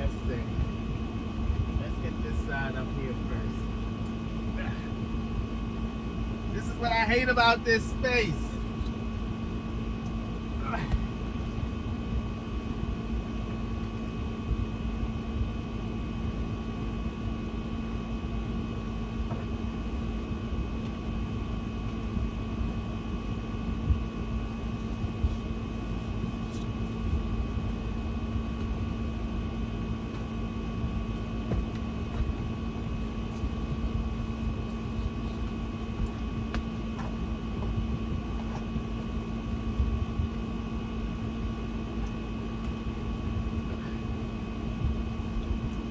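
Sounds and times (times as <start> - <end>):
appliance humming: 0.0 - 45.9.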